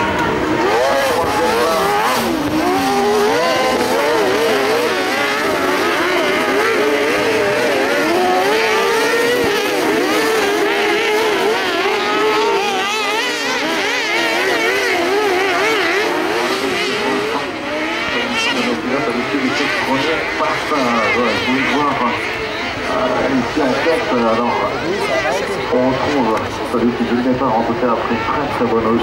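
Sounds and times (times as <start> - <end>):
buggy engines revving: 0.0 - 29.0.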